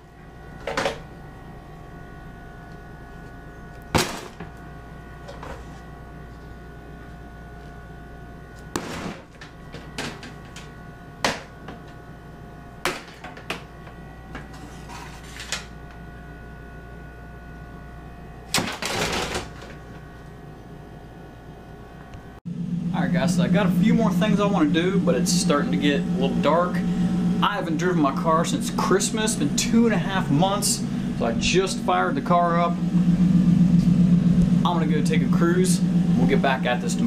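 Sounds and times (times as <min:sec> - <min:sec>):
steady hum: 0:00.0 - 0:37.0.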